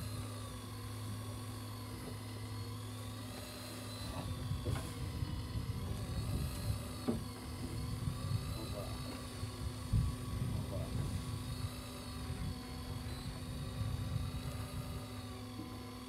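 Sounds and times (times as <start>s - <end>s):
electric fishing reel motor whine: 0.0s - 16.0s
steady low hum: 0.0s - 16.0s.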